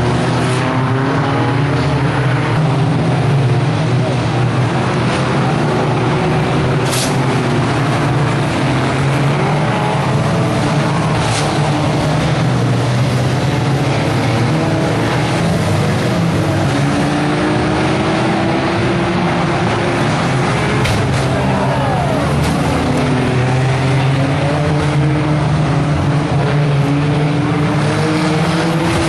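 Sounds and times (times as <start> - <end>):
racing car engines revving: 0.0 - 29.0.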